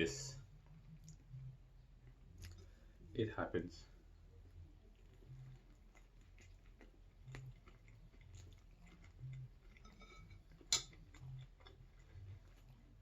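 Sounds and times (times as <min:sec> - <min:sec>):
chewing food: 0:00.4 - 0:03.1, 0:04.0 - 0:13.0.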